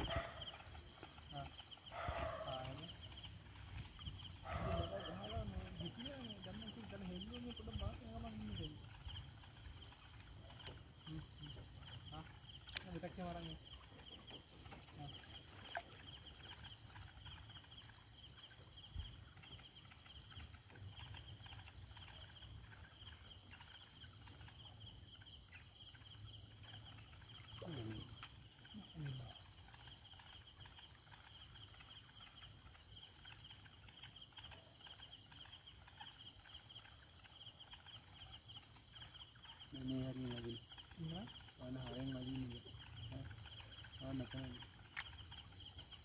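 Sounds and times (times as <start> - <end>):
night insects chirring: 0.0 - 46.0.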